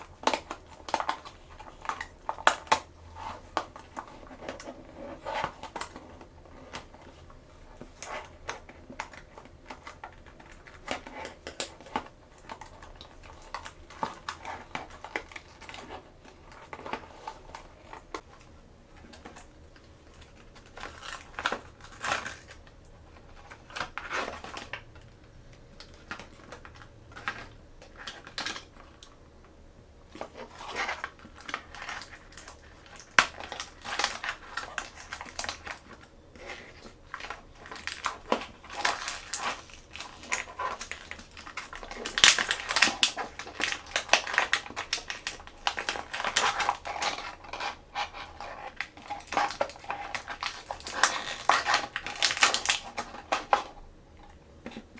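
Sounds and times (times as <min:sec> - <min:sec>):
packaging crinkling: 0:00.0 - 0:54.9.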